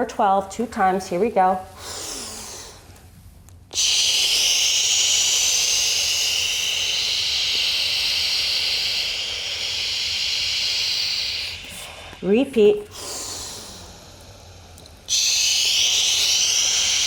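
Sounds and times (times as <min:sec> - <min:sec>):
forceful exhale through mouth: 0:01.8 - 0:02.9, 0:03.8 - 0:12.2, 0:12.9 - 0:17.0.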